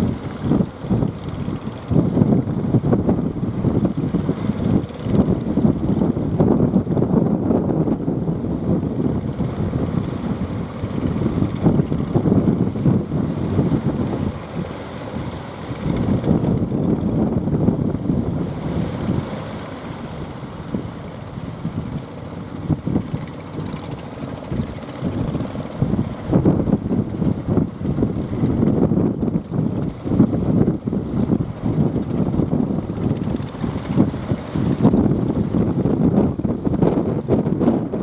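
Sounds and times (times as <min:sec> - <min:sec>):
boat engines running: 0:00.0 - 0:38.0
waves washing: 0:00.0 - 0:38.0
wind buffeting microphone: 0:00.0 - 0:38.0.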